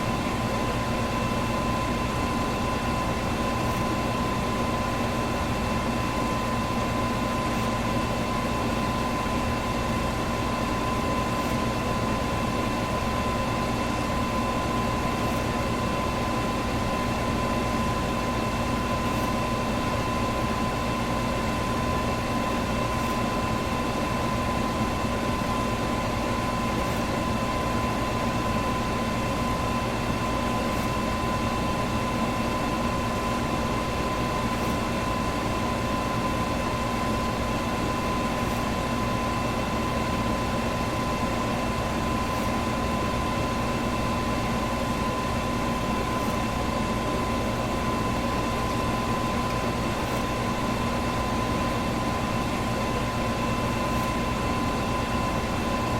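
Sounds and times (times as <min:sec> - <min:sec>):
fan motor hum: 0:00.0 - 0:55.9.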